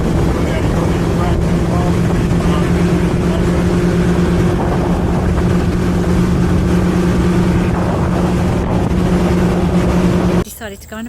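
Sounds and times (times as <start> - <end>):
wind and water rushing: 0.0 - 10.4
motorboat engine running: 0.0 - 11.0.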